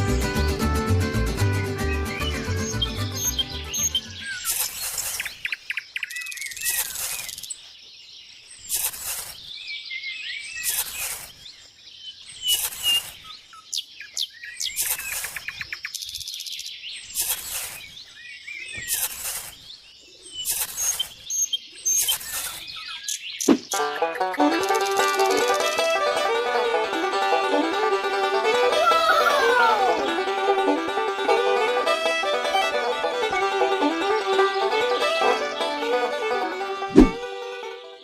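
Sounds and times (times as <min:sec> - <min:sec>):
small birds chirping: 0:01.6 - 0:38.0.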